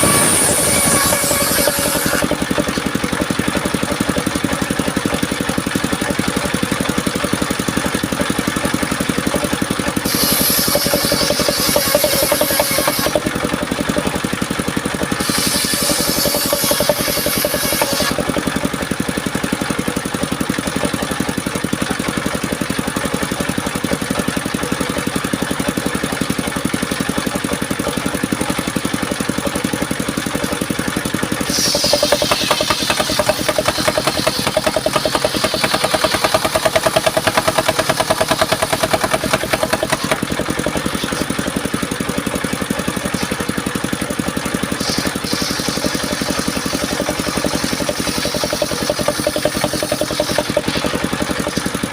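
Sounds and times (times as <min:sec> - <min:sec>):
saw blade cutting wood whine: 0:00.0 - 0:21.2, 0:24.4 - 0:51.9
sawmill engine running: 0:00.0 - 0:51.9.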